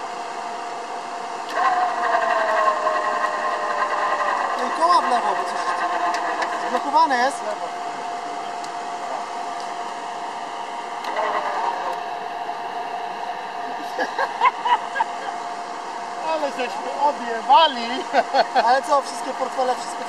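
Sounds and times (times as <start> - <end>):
electric winch motor whine: 0.0 - 20.0.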